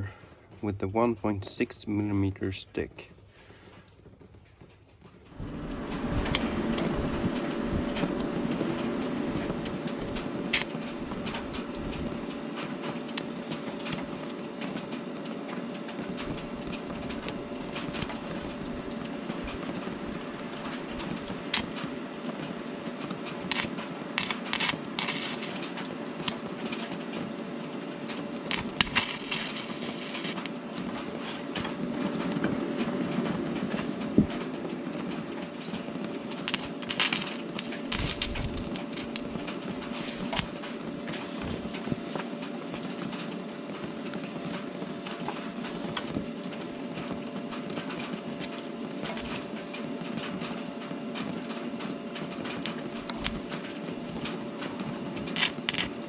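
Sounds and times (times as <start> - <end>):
welding arc crackling and hissing: 5.0 - 32.0, 33.8 - 56.0.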